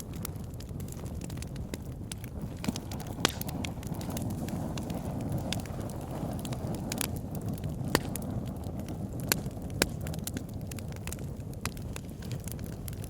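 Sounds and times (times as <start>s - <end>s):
fire burning in fireplace: 0.0s - 13.0s
fire crackling and popping: 0.0s - 13.0s.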